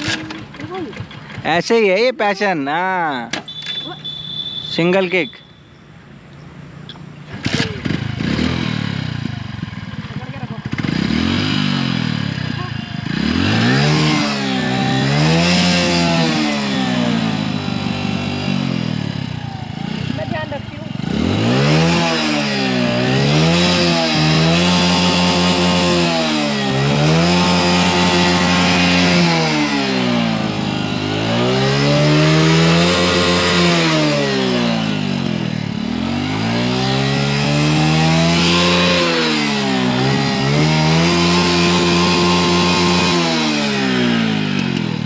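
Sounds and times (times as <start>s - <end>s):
motorcycle engine revving: 0.0s - 5.4s, 6.8s - 45.0s.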